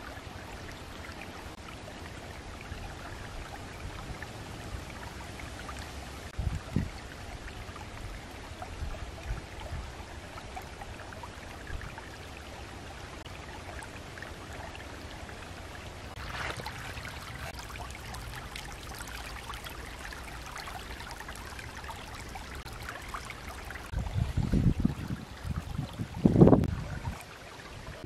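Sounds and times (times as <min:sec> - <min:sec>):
creek running over rocks: 0:00.0 - 0:28.0.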